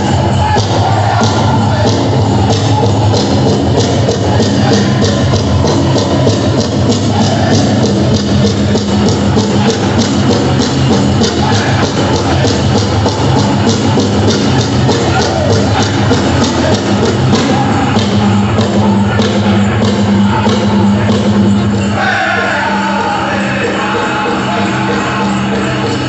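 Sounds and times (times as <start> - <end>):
men singing together: 0.0 - 5.4, 6.9 - 21.2, 21.8 - 26.0
large hand drum beat: 0.0 - 26.0.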